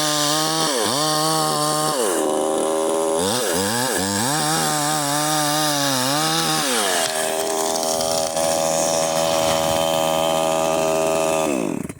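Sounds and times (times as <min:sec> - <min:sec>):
chainsaw running: 0:00.0 - 0:11.9.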